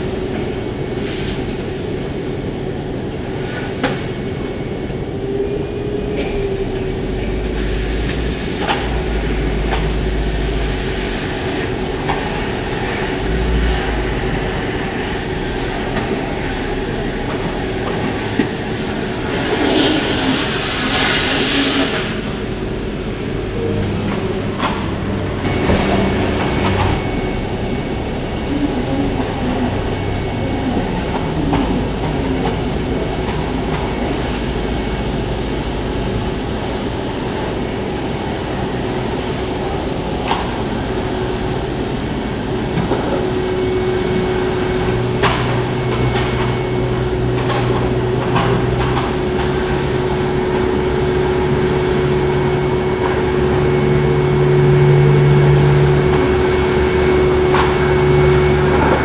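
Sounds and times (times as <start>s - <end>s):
muffled aircraft engines rumbling: 0.0s - 59.0s.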